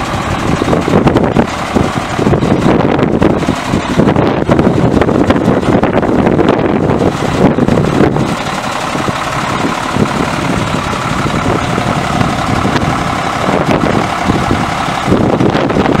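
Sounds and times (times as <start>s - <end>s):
diesel engine idling: 0.0s - 16.0s
wind buffeting microphone: 0.0s - 16.0s.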